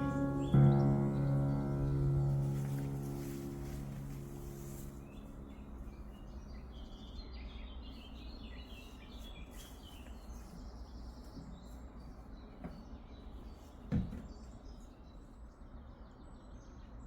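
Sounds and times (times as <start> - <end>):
low outdoor background hum: 0.0 - 17.0
small birds chirping: 0.0 - 17.0.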